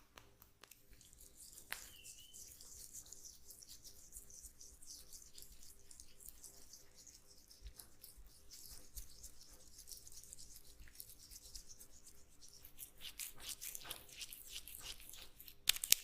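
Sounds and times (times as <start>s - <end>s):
rubbing strokes on skin: 0.6s - 16.0s.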